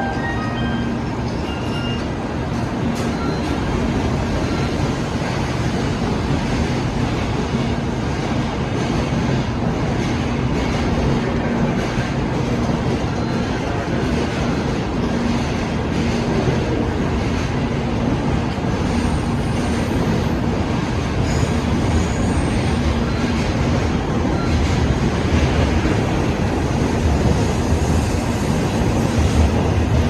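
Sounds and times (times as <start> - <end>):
train cars rolling past: 0.0 - 30.0.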